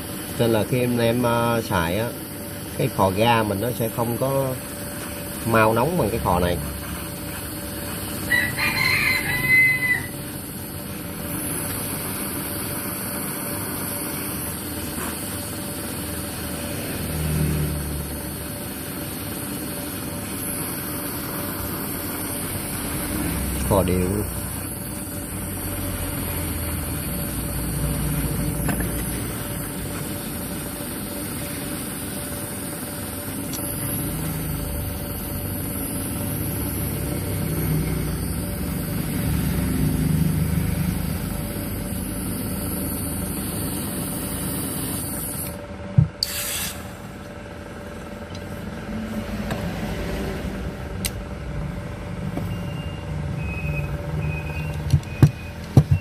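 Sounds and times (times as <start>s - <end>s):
hot-air gun blowing with hiss: 0.0s - 47.2s.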